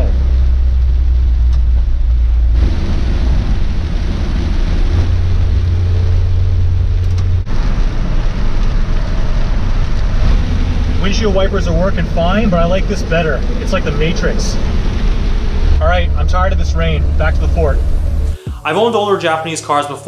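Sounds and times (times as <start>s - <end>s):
tyre noise on wet road: 0.0s - 18.3s
car engine droning: 0.0s - 20.0s.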